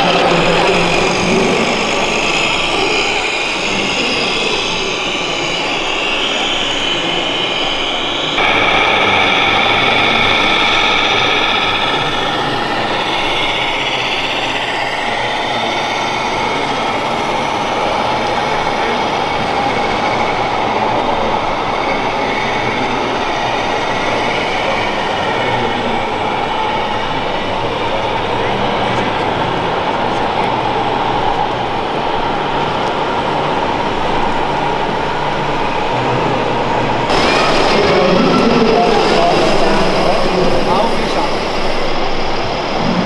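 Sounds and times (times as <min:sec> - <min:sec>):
model trucks whining: 0:00.0 - 0:43.0.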